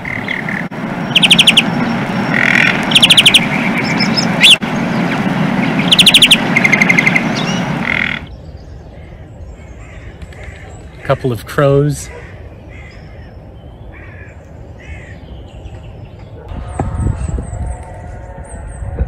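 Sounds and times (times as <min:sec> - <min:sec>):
finch singing trills: 0:00.0 - 0:16.4
faint outdoor ambience: 0:00.0 - 0:19.0.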